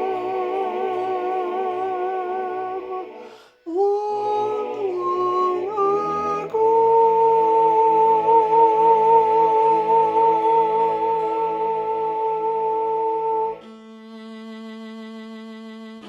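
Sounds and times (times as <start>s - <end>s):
soprano singing with vibrato: 0.0s - 13.6s
soft accompaniment: 0.0s - 16.0s.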